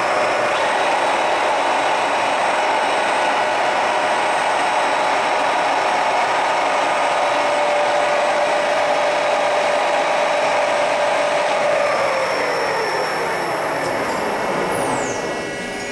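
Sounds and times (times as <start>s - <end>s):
gear machine whirring and humming: 0.0s - 15.9s.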